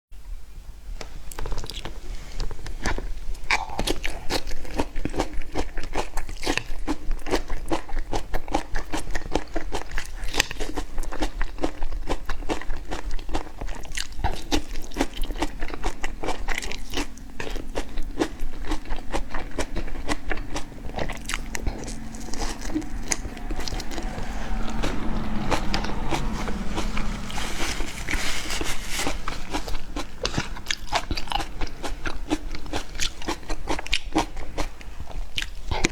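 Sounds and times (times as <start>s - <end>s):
person chewing crunchy food: 1.4s - 35.9s.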